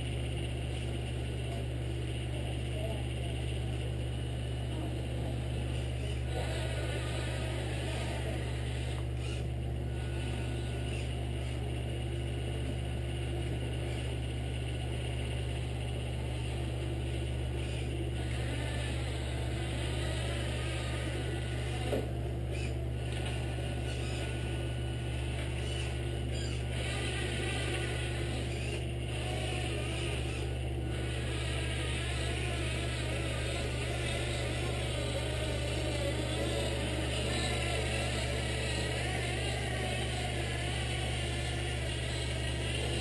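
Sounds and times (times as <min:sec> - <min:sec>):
model truck motor drone: 0:00.0 - 0:43.0.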